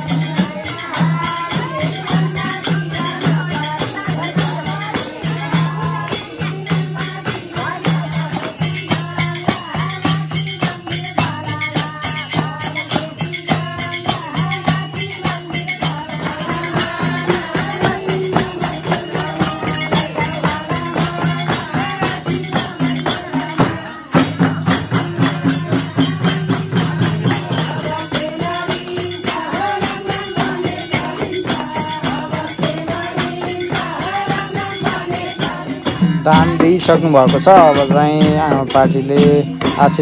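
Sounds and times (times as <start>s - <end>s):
jingling hand percussion: 0.0s - 40.0s
voices singing devotional song: 0.0s - 40.0s.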